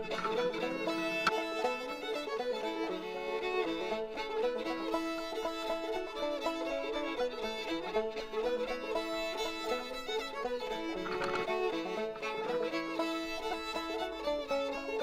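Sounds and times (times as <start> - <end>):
fiddle melody: 0.0 - 15.0.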